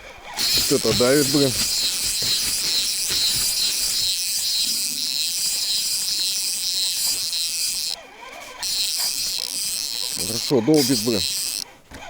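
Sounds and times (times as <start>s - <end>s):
fishing reel whirring: 0.4s - 11.8s.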